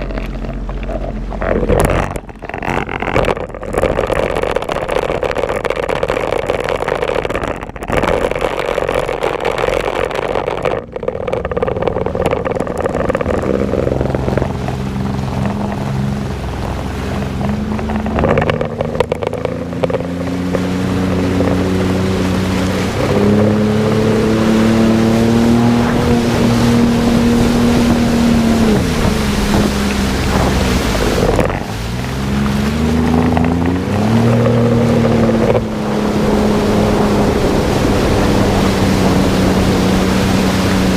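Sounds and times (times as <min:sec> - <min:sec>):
jet ski engine revving: 0:00.0 - 0:40.9
rushing water: 0:00.0 - 0:40.9
wind: 0:00.0 - 0:40.9.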